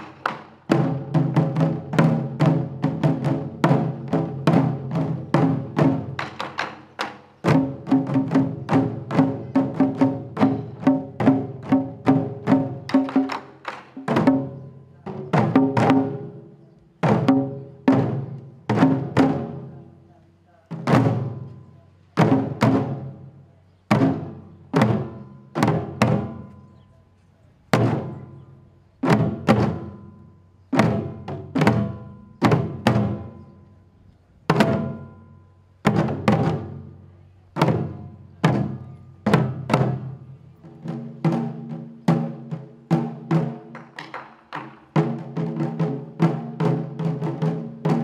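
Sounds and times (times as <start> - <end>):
taiko drums struck with sticks: 0.0 - 20.0, 20.7 - 26.9, 27.7 - 48.0.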